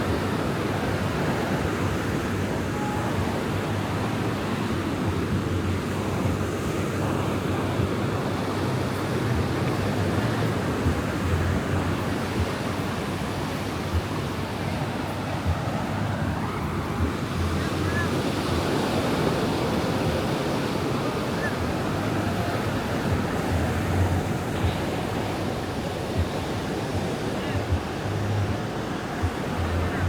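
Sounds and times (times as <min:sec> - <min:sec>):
ocean waves breaking on sand: 0:00.0 - 0:30.0
wind buffeting the microphone: 0:00.0 - 0:30.0.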